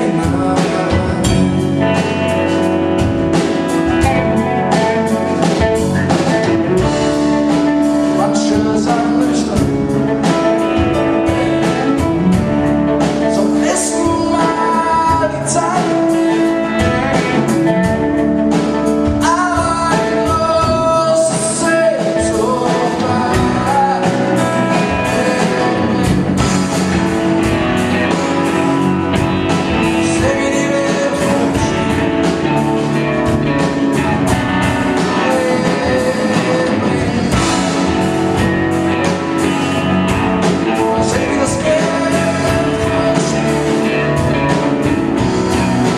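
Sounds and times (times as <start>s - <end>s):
drum kit beat: 0.0s - 45.9s
live rock band playing: 0.0s - 45.9s
man singing lead: 0.0s - 45.9s.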